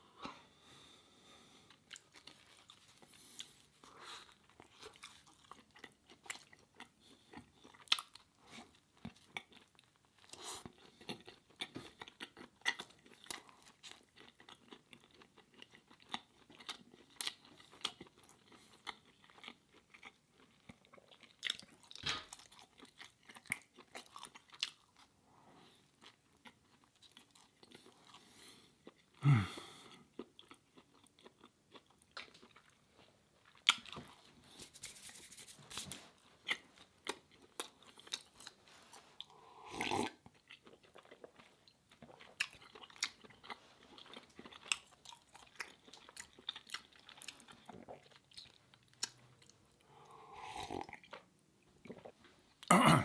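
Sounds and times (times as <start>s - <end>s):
chewing crusty bread: 1.6s - 52.8s.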